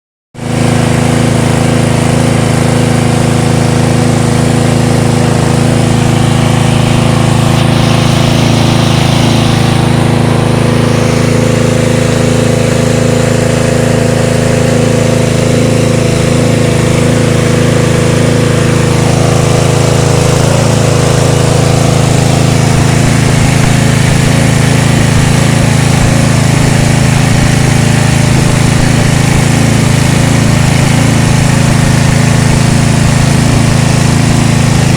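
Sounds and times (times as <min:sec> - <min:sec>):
petrol engine running steadily: 0:00.4 - 0:34.9
higher rushing noise: 0:00.5 - 0:34.9.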